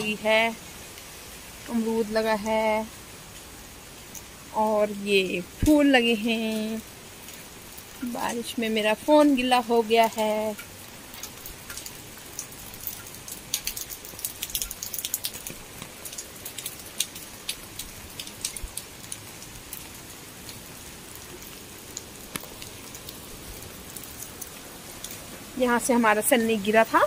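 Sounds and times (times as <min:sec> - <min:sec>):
raindrops ticking close by: 0:00.0 - 0:27.0
steady rain falling: 0:00.0 - 0:27.0.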